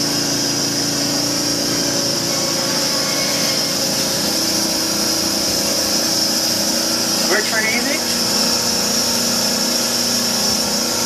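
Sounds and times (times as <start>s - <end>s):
machine motor humming and hissing: 0.0s - 11.0s.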